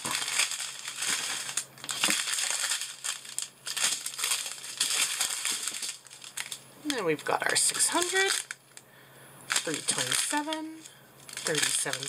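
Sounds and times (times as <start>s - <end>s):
plastic bags crinkling: 0.0s - 8.8s, 9.5s - 12.0s.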